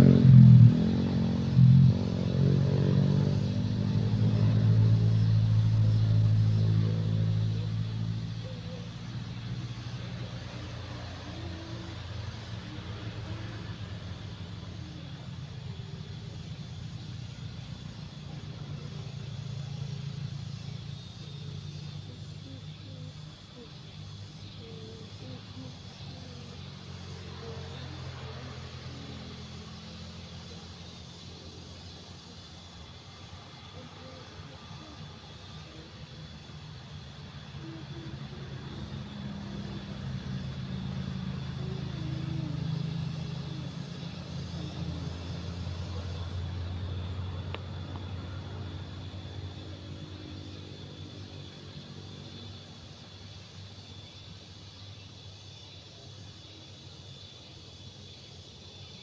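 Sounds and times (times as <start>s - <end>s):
insect trill: 0.0s - 59.0s
vehicle engine hum: 0.0s - 59.0s.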